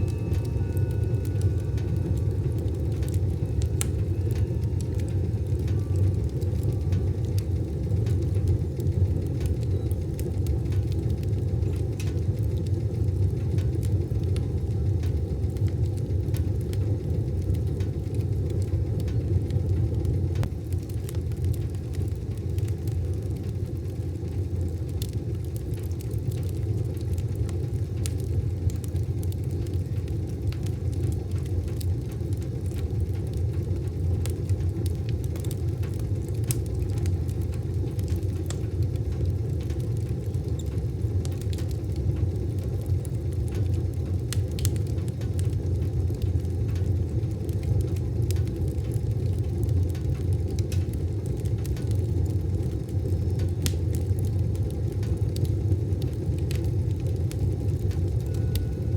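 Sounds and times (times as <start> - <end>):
fire crackles and pops: 0.0 - 58.9
wood fire rumbling: 0.0 - 58.9.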